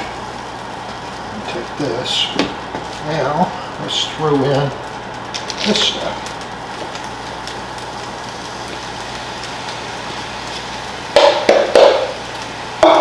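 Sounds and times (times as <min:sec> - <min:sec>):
rice and vegetables sizzling: 0:00.0 - 0:13.0.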